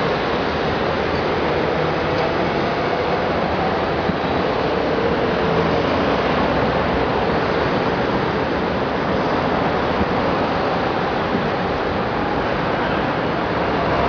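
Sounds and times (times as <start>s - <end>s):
highway traffic: 0.0s - 14.0s.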